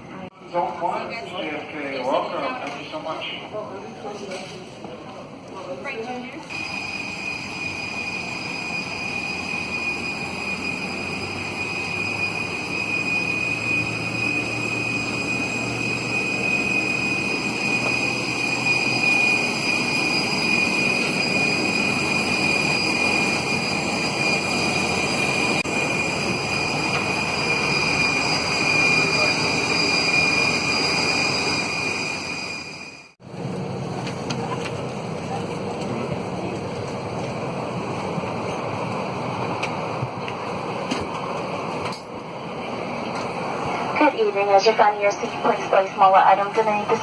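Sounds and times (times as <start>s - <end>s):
airliner high-pitched whine: 0.0s - 47.0s
airliner rushing hum: 6.5s - 47.0s.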